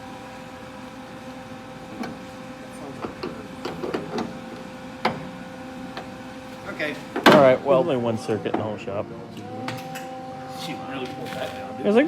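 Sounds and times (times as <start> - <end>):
welder transformer humming: 0.0 - 12.0.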